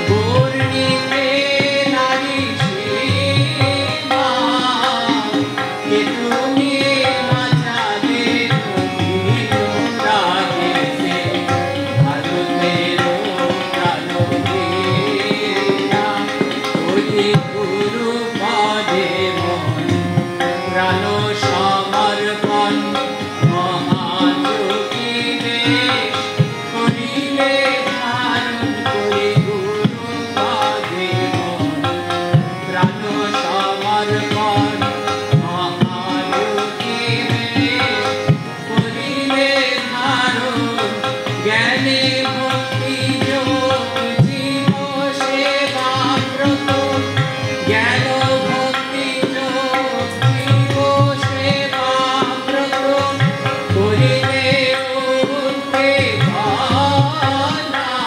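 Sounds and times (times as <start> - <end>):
harmonium chords: 0.0 - 58.0
man singing: 0.0 - 58.0.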